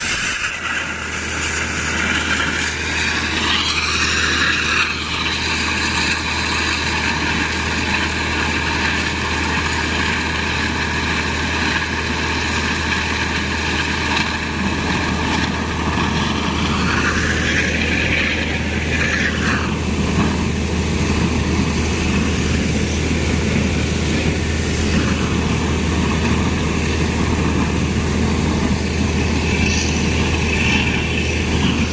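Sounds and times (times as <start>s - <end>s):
compressor humming and whining: 0.0s - 31.9s.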